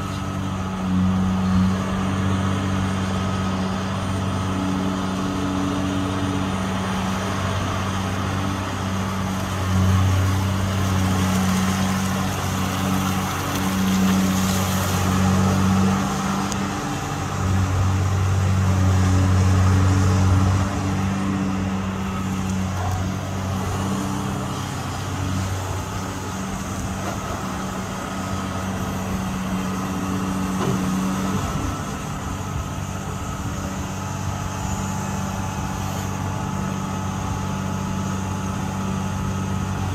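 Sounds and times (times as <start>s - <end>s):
excavator engine and hydraulics humming: 0.0s - 39.9s.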